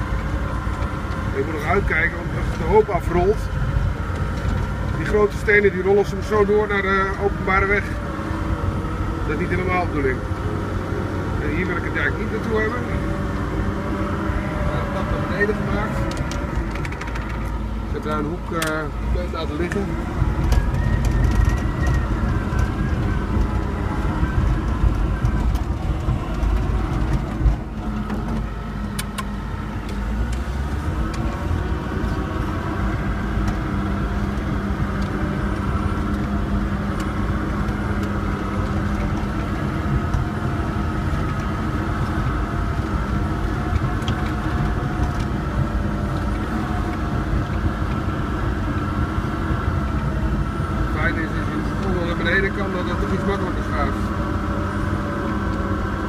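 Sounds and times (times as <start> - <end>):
dozer diesel engine under load: 0.0 - 56.0.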